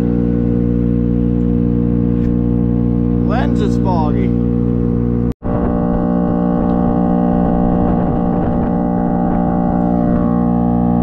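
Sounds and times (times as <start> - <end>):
farm machinery droning: 0.0 - 11.0.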